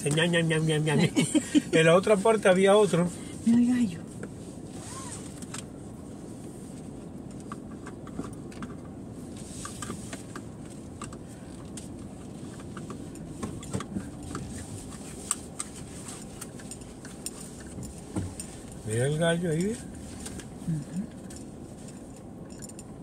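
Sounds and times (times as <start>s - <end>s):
car cabin low rumble: 0.0s - 23.0s.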